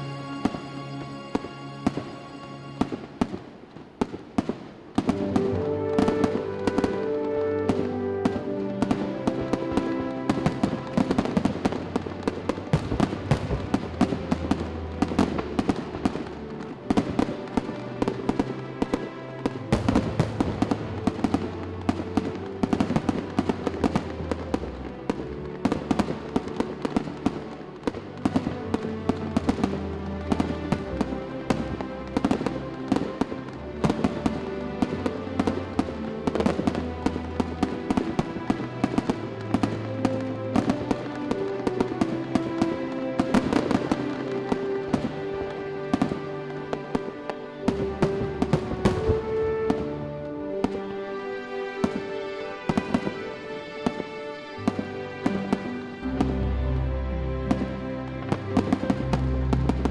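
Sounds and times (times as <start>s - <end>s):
fireworks bursting and crackling: 0.0s - 59.9s
music playing: 0.0s - 59.9s.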